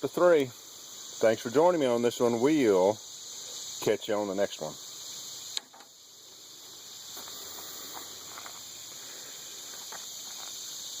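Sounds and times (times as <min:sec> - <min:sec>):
insects chirping chorus: 0:00.0 - 0:11.0.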